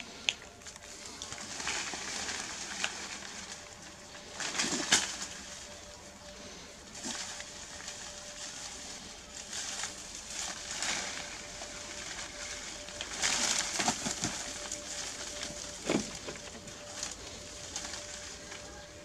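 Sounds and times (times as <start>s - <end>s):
leaves and branches rustling: 0.0s - 19.0s.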